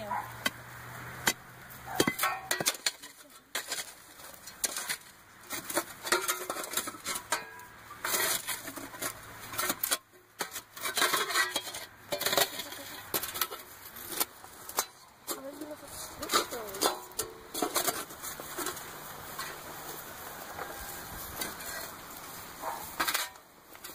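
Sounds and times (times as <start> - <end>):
dry stems and leaves rustling: 0.0 - 23.9.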